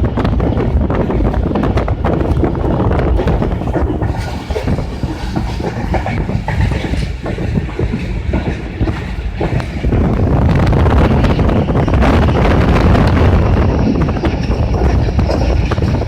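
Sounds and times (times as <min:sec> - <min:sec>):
train wheels clacking on rails: 0:00.0 - 0:16.0.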